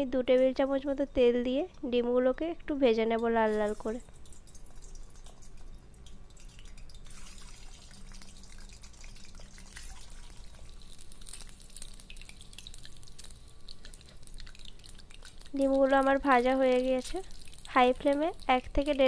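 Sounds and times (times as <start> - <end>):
eggs sizzling in hot oil: 2.3 - 19.0
oil popping and crackling: 3.1 - 19.0.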